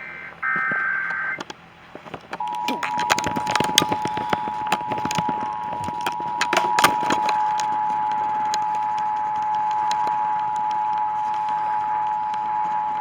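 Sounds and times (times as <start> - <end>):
two-tone alert signal: 0.0 - 1.4, 2.4 - 13.0
static crackling clicks: 0.0 - 13.0.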